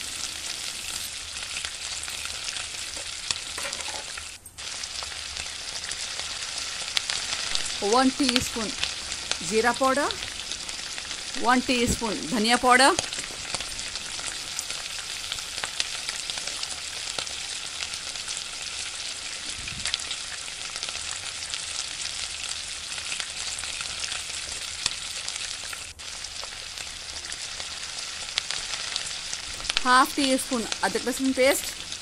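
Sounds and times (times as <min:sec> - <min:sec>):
masala sizzling in oil: 0:00.0 - 0:32.0.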